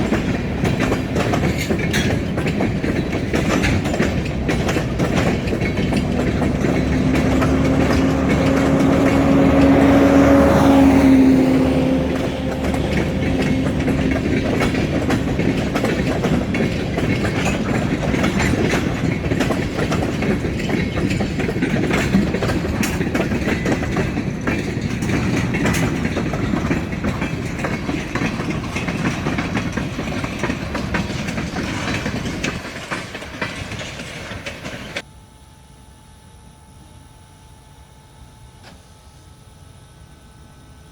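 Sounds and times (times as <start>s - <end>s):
freight cars rattling over rails: 0.0s - 35.1s
locomotive tone: 0.0s - 35.1s.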